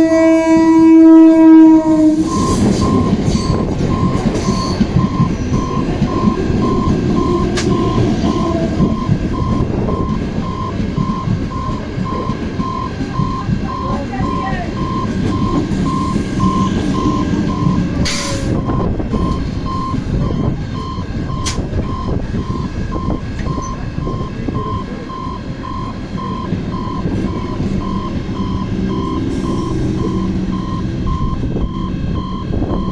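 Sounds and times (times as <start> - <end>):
level crossing warning beeper: 0.0 - 32.9
idling vehicles rumble: 1.9 - 32.9.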